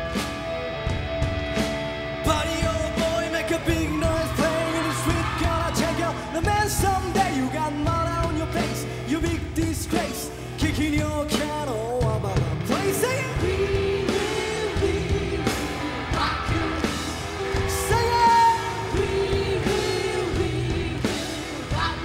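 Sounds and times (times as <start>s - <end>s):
rock band playing: 0.0s - 22.0s
lead vocal singing: 2.2s - 22.0s.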